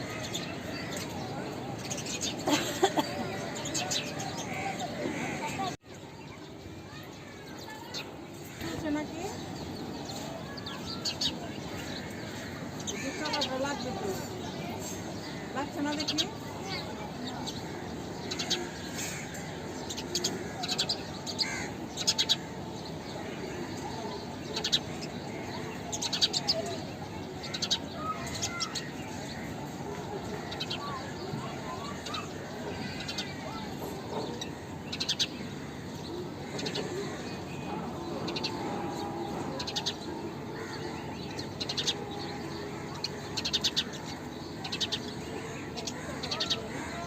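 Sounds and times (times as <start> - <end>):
sparrows chirping: 0.0 - 47.0
steady background noise: 0.0 - 47.0.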